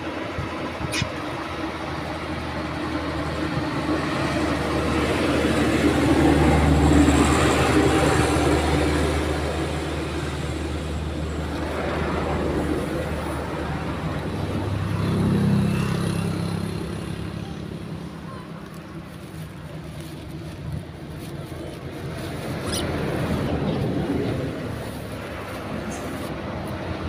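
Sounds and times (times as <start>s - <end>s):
large vehicle engine rumble: 0.0s - 27.0s.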